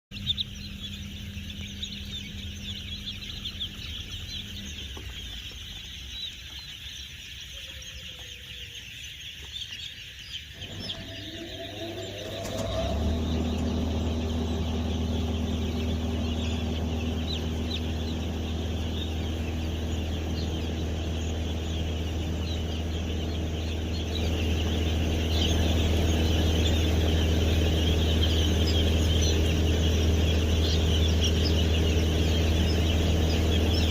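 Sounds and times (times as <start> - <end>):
chicks cheeping: 0.0 - 33.9
motor humming: 0.1 - 6.8, 10.4 - 33.9.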